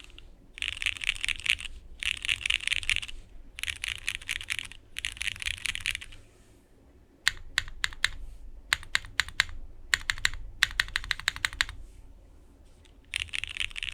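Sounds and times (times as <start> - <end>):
typing on mechanical keyboard: 0.0 - 6.3, 7.3 - 11.8, 12.9 - 13.9.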